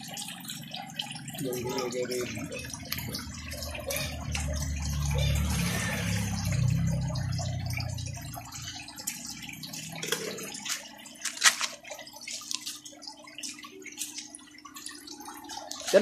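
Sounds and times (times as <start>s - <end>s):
water dripping and splashing: 0.0s - 16.0s.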